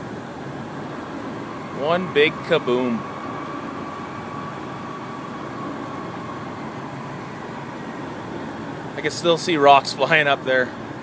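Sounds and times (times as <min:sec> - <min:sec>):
truck cab running noise: 0:00.0 - 0:11.0.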